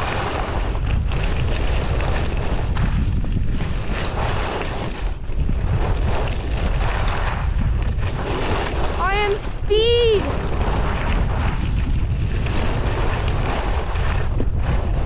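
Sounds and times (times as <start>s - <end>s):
skis carving on snow: 0.0s - 15.0s
wind buffeting microphone: 0.0s - 15.0s.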